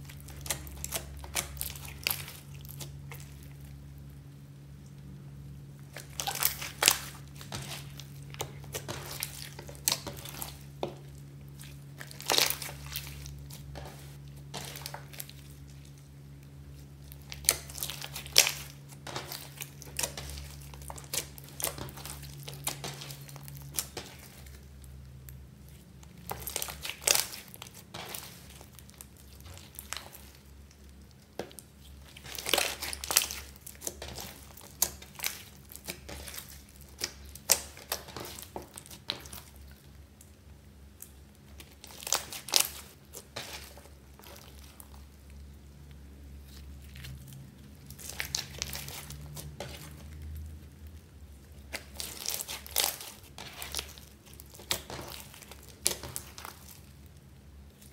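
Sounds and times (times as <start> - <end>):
slime crackling and popping: 0.0 - 5.0, 5.8 - 57.9.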